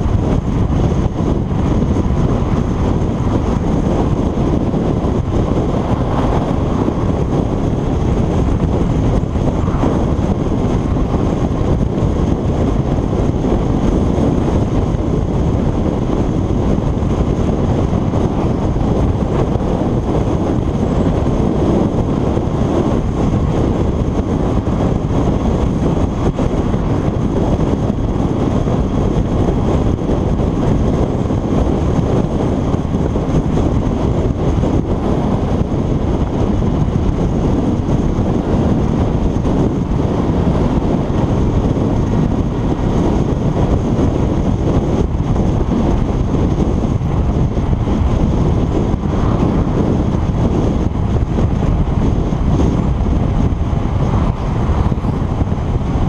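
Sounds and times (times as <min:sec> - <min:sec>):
motorcycle engine: 0:00.0 - 0:56.0
wind noise on microphone: 0:00.0 - 0:56.0.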